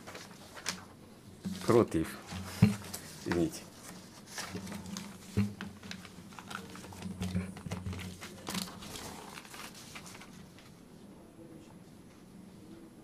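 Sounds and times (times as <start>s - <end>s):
rustling and crinkling: 0.0s - 10.8s.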